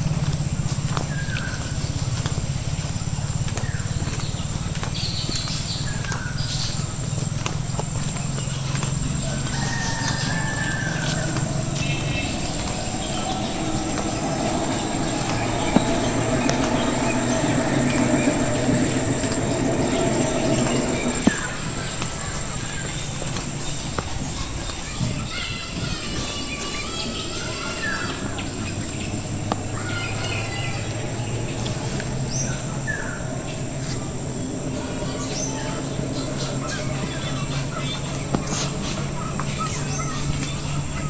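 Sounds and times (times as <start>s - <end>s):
birds chirping: 0.0s - 41.0s
steady low hum: 0.0s - 41.0s
louder mid-pitched hum: 6.8s - 40.8s.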